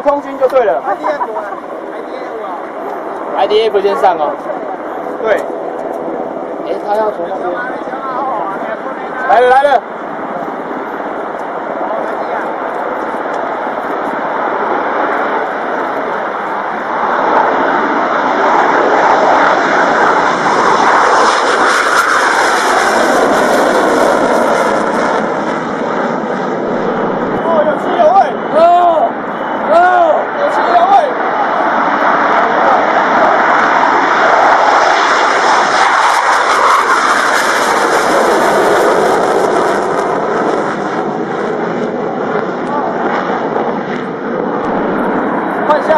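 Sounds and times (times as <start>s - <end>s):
fighter jet engines at takeoff: 0.0s - 45.9s.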